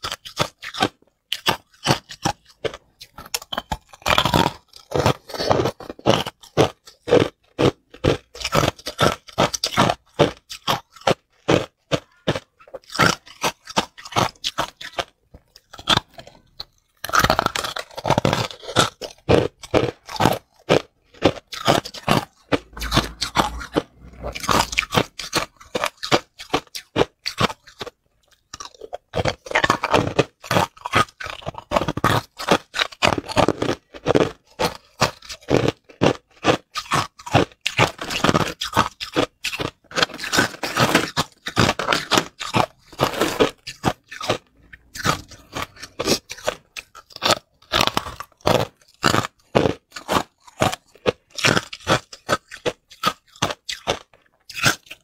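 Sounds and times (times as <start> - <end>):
ice crunching in mouth: 0.0 - 55.0.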